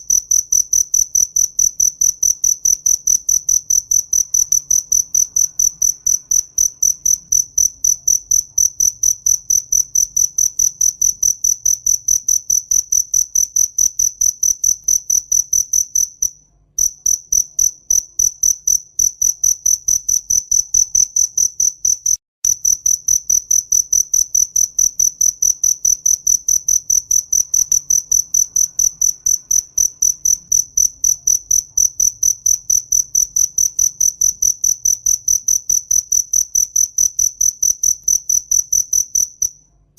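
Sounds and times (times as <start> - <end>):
cricket chirping: 0.0 - 39.7.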